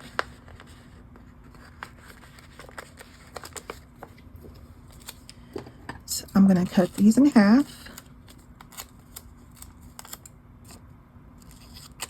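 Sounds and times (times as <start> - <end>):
paper sticker sheets rustling: 0.0 - 5.5, 6.2 - 10.8
low steady hum: 0.0 - 12.0.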